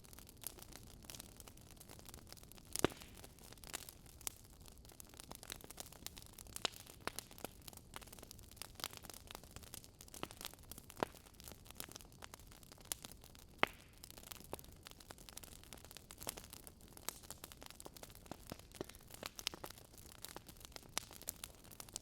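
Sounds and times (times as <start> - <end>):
burning logs crackling: 0.0 - 22.0.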